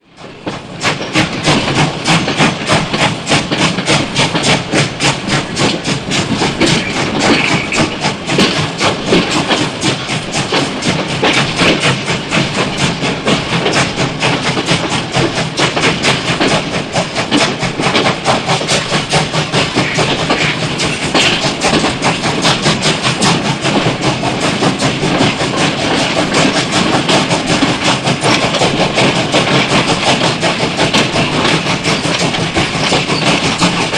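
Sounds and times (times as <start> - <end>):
steam locomotive chuffing: 0.0 - 33.9.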